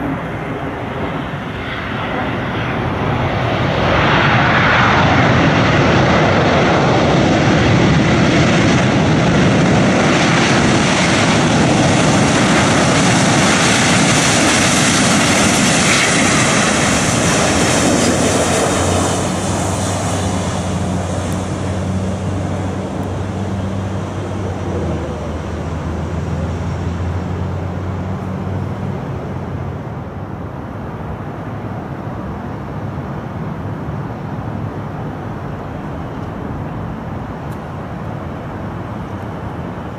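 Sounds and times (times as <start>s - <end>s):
jet engines on landing roll: 0.0s - 39.9s.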